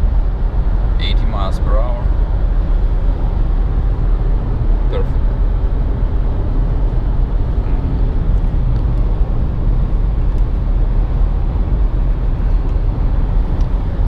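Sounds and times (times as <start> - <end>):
car cabin road noise: 0.0 - 14.0.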